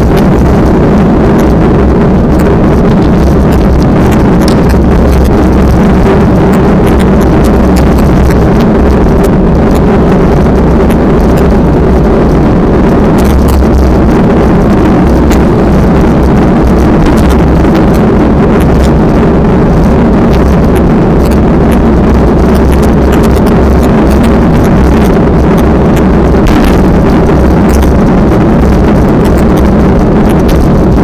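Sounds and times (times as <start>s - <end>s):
wind blasting microphone: 0.0s - 31.0s.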